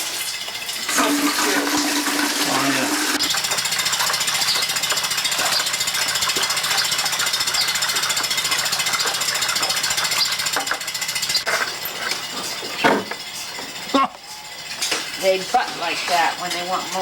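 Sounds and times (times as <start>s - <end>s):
machine rattling: 0.0s - 17.0s.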